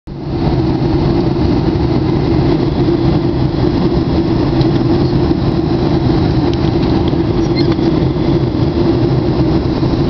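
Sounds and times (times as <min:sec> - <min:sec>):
aircraft cabin engine hum: 0:00.1 - 0:10.0.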